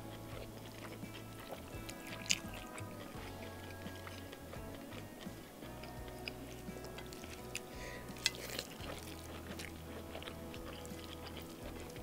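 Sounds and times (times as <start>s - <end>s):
chewing: 0.0s - 12.0s
wet sticky fingers in food: 0.0s - 12.0s.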